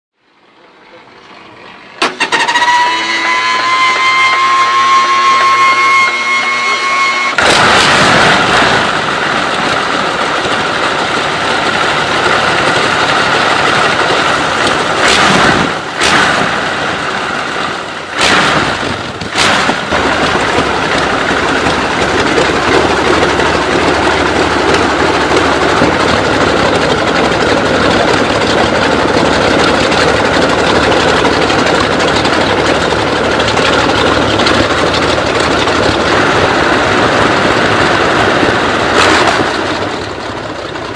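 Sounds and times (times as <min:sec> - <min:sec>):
aircraft engine rough idle: 0:00.2 - 0:40.9.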